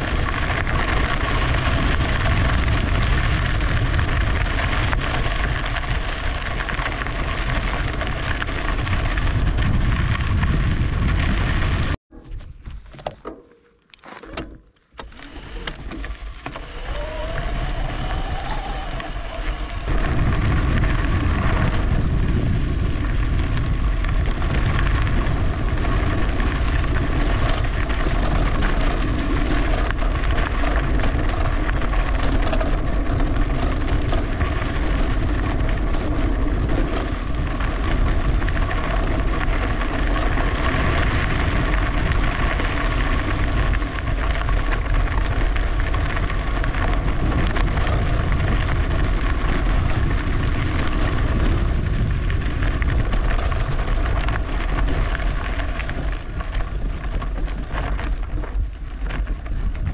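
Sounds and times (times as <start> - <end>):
wind rushing over microphone: 0.0 - 12.8, 15.1 - 59.9
rolling rumble of bike: 0.0 - 59.9.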